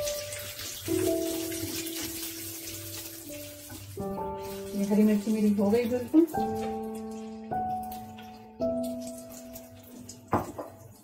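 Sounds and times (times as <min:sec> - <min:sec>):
background music with held notes: 0:00.0 - 0:11.0
spices sizzling in hot oil: 0:00.0 - 0:11.0.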